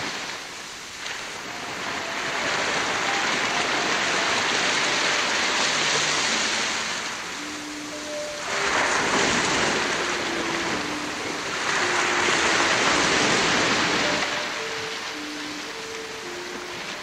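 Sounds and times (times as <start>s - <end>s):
ocean waves washing in: 0.0s - 17.0s
slow melody of held notes: 1.2s - 17.0s.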